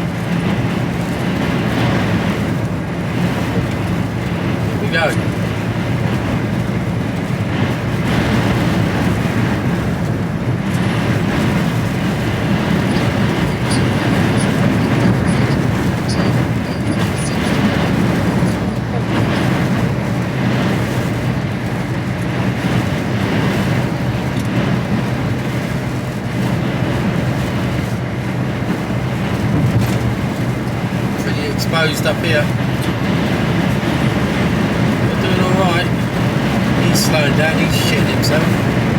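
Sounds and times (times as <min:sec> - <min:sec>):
lorry diesel engine droning: 0:00.0 - 0:38.9
road and wind noise: 0:00.0 - 0:38.9.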